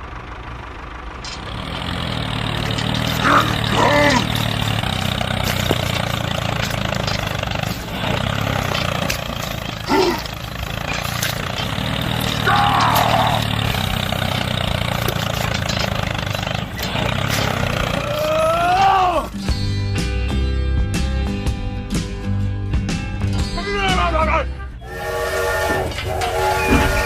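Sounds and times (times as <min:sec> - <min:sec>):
engine running steadily: 0:00.0 - 0:22.1, 0:24.6 - 0:27.0.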